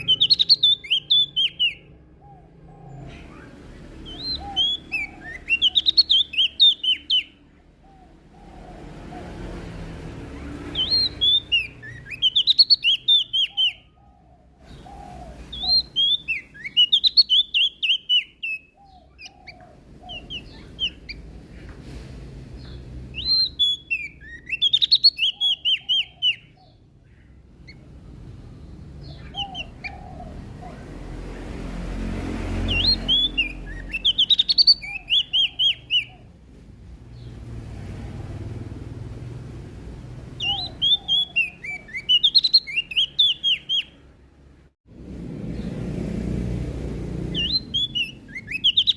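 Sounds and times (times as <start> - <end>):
warbler singing: 0.0 - 21.8, 22.4 - 44.2, 45.4 - 48.9.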